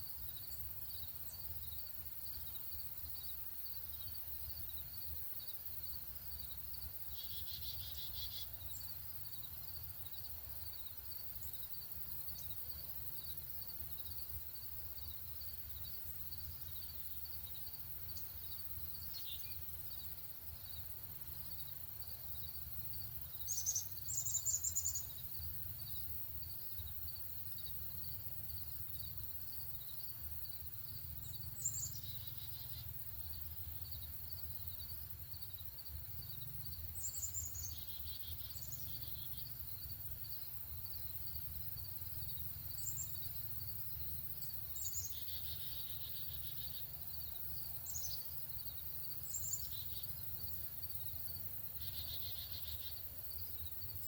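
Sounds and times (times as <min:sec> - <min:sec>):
insects chirping: 0:00.0 - 0:54.0
songbirds calling: 0:02.5 - 0:28.0, 0:31.0 - 0:41.2, 0:41.8 - 0:54.0.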